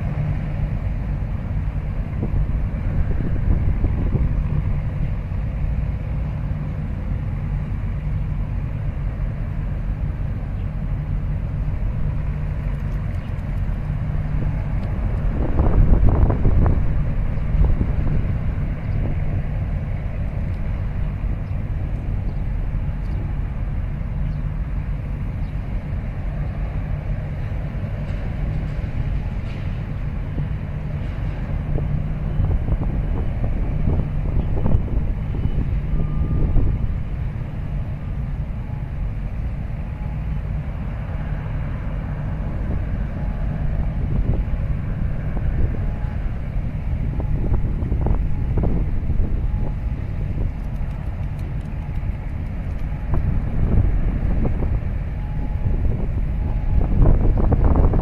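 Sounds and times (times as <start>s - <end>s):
ship engines rumbling: 0.0s - 58.0s.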